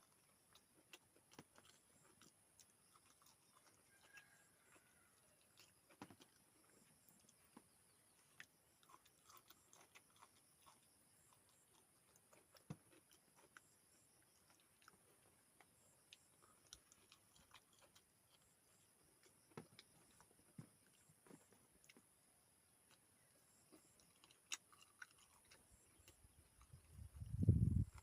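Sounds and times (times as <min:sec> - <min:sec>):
person chewing: 0:00.0 - 0:22.1, 0:22.8 - 0:28.0.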